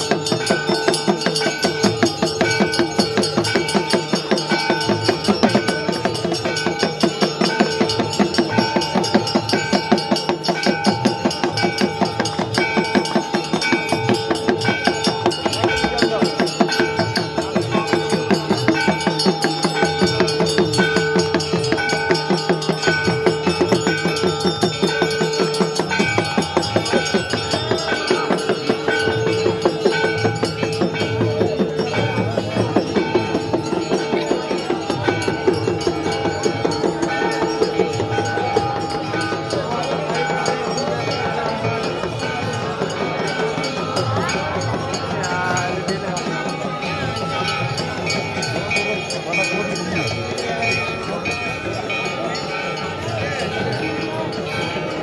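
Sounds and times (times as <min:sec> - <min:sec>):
drum beats: 0:00.0 - 0:55.0
temple bells ringing rapidly: 0:00.0 - 0:55.0.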